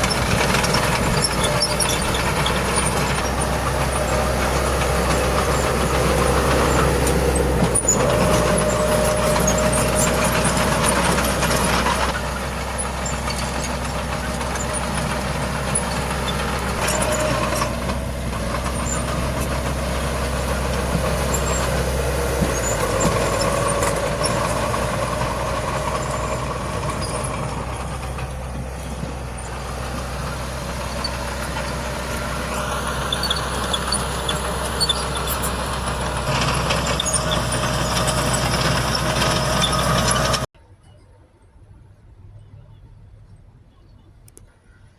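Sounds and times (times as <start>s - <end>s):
diesel machinery engine under load: 0.0s - 40.6s.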